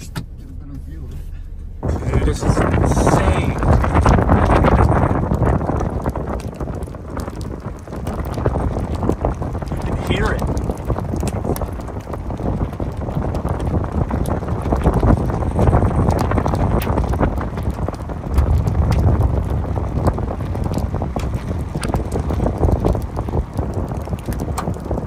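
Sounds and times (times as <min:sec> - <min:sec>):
wind buffeting microphone: 0:01.3 - 0:25.0.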